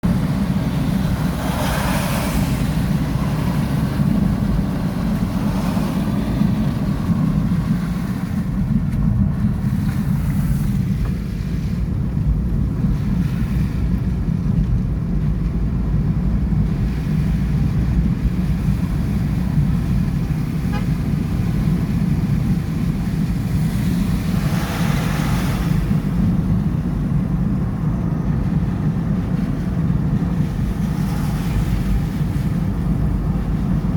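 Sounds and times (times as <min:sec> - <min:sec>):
heavy rain rumbling and hissing: 0:00.0 - 0:33.9.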